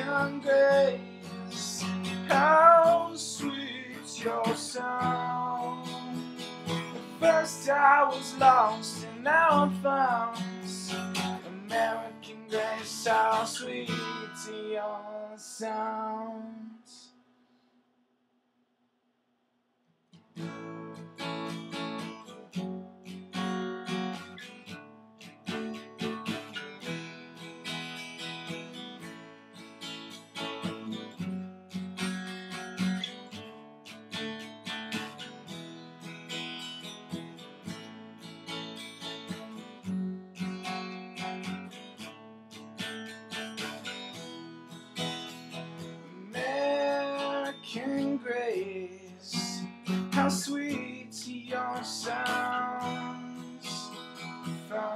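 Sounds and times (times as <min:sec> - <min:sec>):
acoustic guitar strumming: 0:00.0 - 0:17.0, 0:20.1 - 0:54.9.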